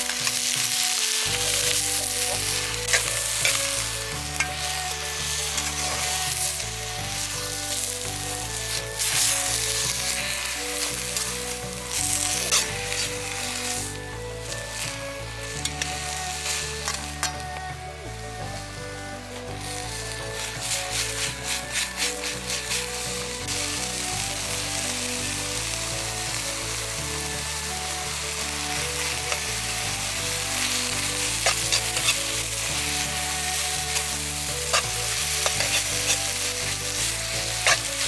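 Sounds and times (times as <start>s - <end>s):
food sizzling in a pan: 0.0s - 38.0s
light background music: 0.0s - 38.0s
stirring in a pan: 0.0s - 38.0s.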